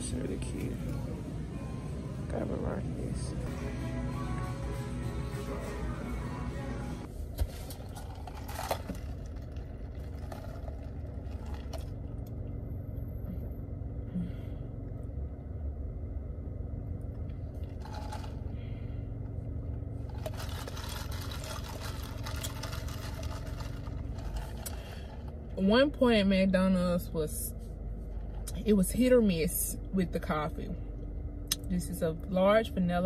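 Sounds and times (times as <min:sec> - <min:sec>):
low rumble of car cabin: 0:00.0 - 0:33.0.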